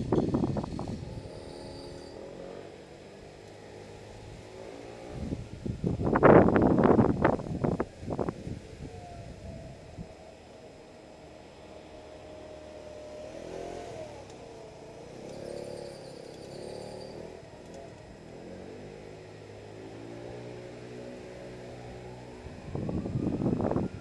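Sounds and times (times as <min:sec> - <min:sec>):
motorcycle engine: 0:00.0 - 0:08.4, 0:09.5 - 0:24.0
vehicle passing by: 0:00.0 - 0:10.0, 0:11.4 - 0:24.0
low engine hum: 0:00.0 - 0:24.0.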